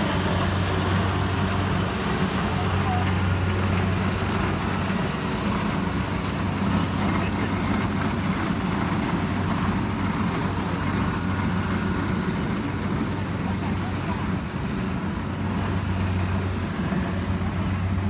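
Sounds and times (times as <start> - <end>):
harvester engine humming: 0.0 - 18.0.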